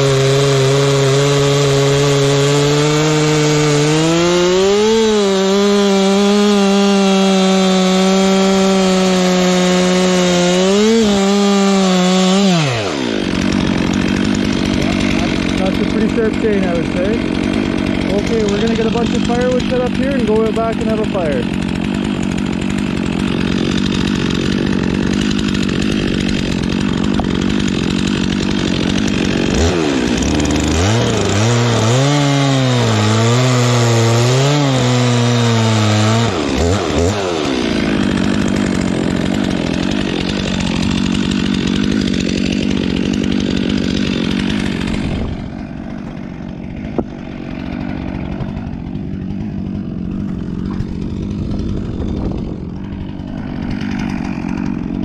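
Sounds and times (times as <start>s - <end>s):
chainsaw engine revving and idling: 0.0s - 55.0s.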